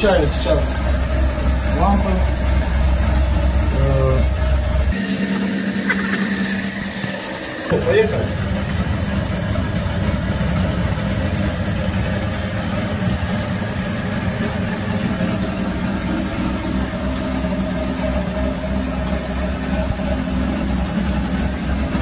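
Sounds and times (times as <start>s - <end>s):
motor generator humming: 0.0s - 22.0s.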